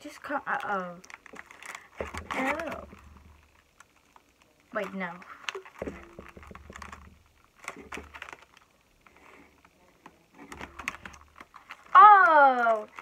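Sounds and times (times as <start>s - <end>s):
packaging rustling: 0.5s - 13.0s.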